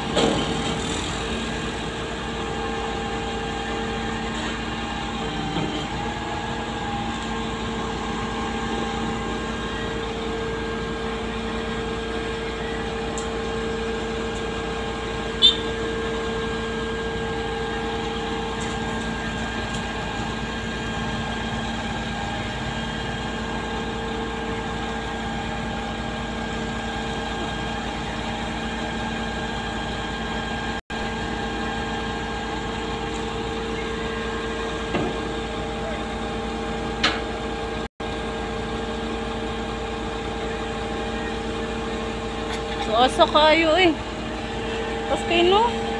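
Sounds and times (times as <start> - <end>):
concrete pump engine drone: 0.0 - 45.9.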